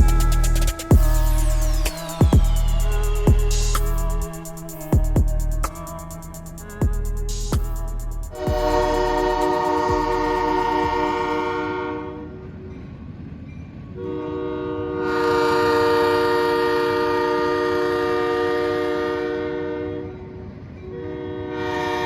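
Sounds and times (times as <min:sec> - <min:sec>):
locomotive air horn blasts: 0:00.0 - 0:07.4, 0:08.3 - 0:12.3, 0:14.0 - 0:20.2, 0:20.9 - 0:22.0
train rumbling past: 0:00.0 - 0:22.0.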